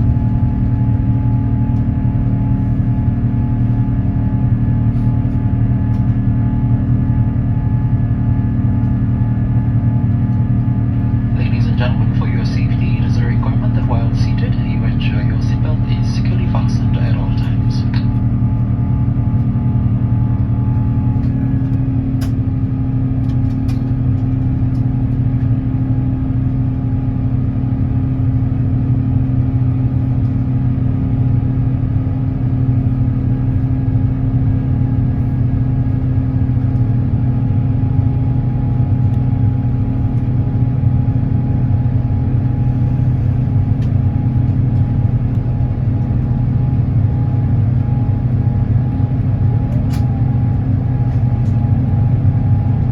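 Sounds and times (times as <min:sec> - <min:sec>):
aircraft cabin engine hum: 0:00.0 - 0:52.9.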